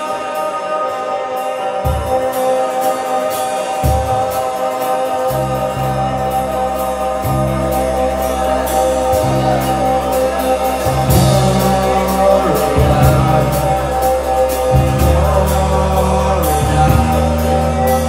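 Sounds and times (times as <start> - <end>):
bass guitar: 0.0 - 18.0
drums keeping a steady beat: 0.0 - 18.0
electric guitars: 0.0 - 18.0
person singing: 0.0 - 18.0.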